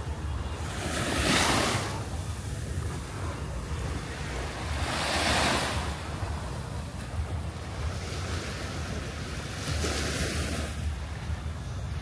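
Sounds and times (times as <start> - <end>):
waves washing up a beach: 0.0 - 12.0
wind rumbling on microphone: 0.0 - 12.0.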